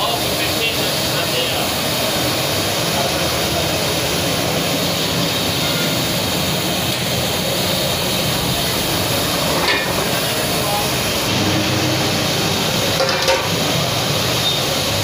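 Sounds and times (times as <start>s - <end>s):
gas burners rushing: 0.0s - 15.0s.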